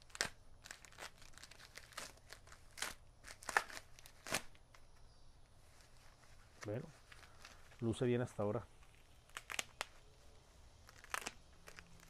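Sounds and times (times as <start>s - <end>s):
packing wrap crinkling and tearing: 0.0s - 4.8s, 5.6s - 7.9s, 8.7s - 10.1s, 10.7s - 12.0s.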